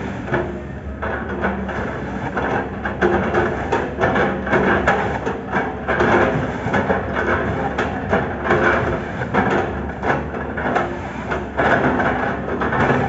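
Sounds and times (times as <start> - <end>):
excavator engine under load: 0.0 - 13.0.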